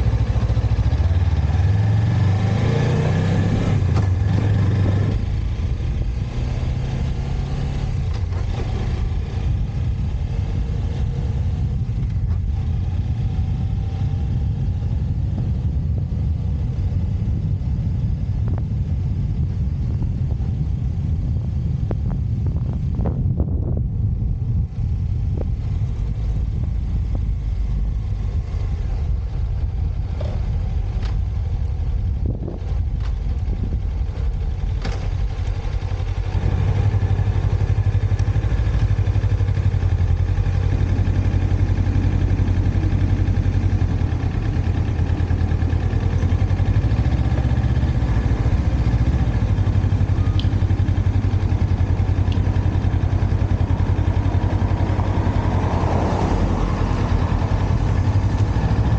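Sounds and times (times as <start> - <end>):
motorcycle engine idling: 0.0 - 2.1, 3.8 - 58.9.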